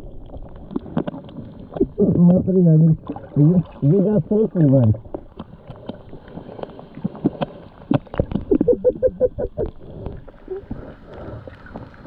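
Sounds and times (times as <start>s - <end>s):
sea water sloshing and splashing: 0.0s - 12.0s.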